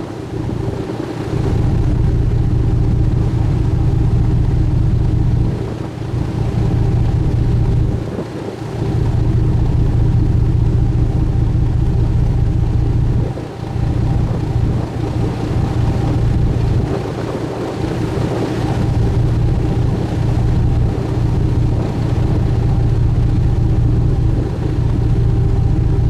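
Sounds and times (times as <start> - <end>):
boat engine drone: 0.0 - 26.0.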